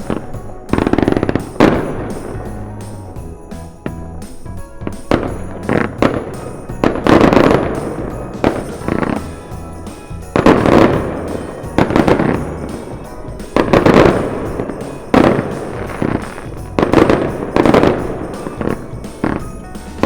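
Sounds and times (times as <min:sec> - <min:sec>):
background music: 0:00.0 - 0:20.0
fireworks booming: 0:00.0 - 0:20.0.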